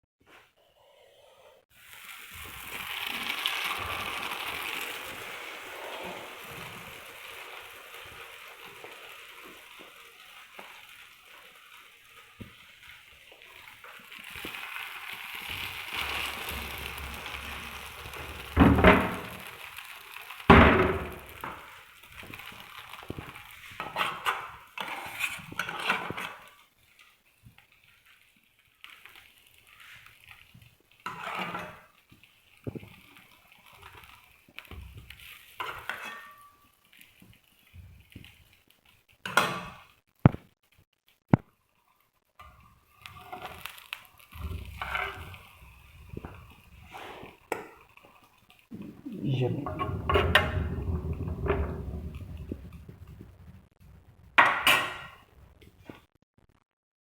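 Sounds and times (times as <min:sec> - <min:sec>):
food sizzling in a pan: 0:00.7 - 0:40.4, 0:41.5 - 0:56.1.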